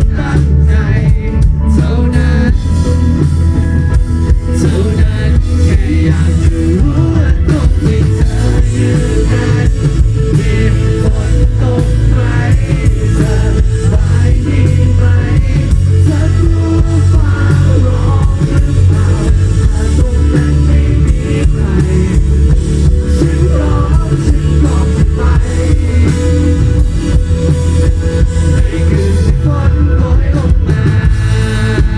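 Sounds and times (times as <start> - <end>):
live pop-rock band: 0.0 - 31.9
sung vocal melody: 0.0 - 31.9.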